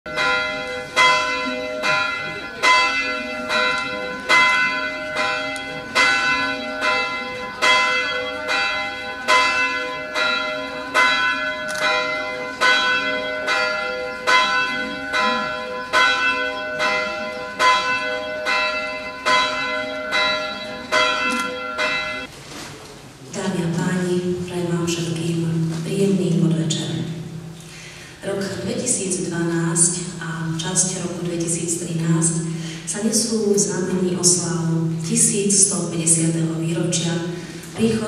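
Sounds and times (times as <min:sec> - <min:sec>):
church bells ringing: 0:00.1 - 0:22.3, 0:23.4 - 0:38.0.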